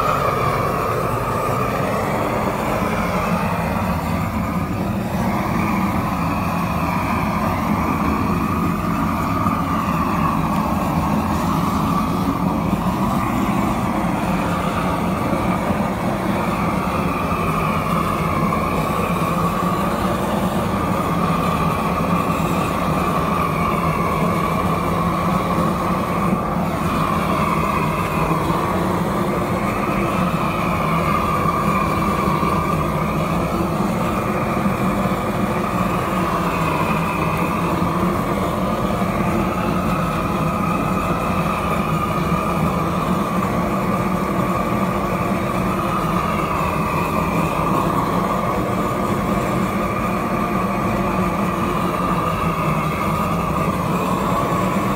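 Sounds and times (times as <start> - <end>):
torch flame rushing: 0.0 - 54.9.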